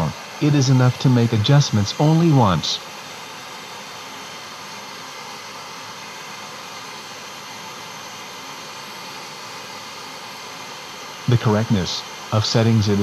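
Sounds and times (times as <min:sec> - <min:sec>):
white noise hiss from loudspeaker: 0:00.0 - 0:13.0.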